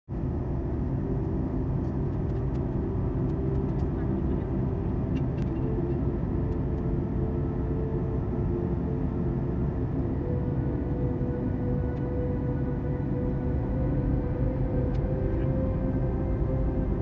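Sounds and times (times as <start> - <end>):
airplane cabin engine rumble: 0.1 - 17.0
steady hum tones: 0.1 - 17.0.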